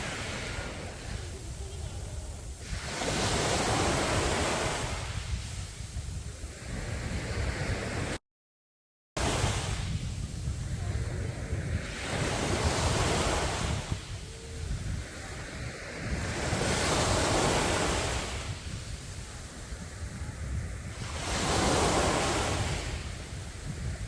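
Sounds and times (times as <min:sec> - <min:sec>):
sea waves breaking on beach: 0:00.0 - 0:08.2, 0:09.2 - 0:24.0.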